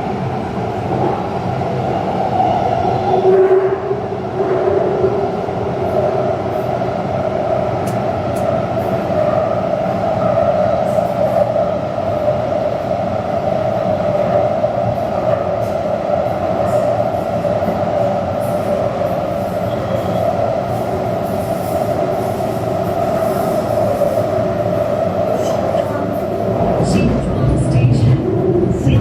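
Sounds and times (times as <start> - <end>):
train rolling rumble: 0.0 - 29.0.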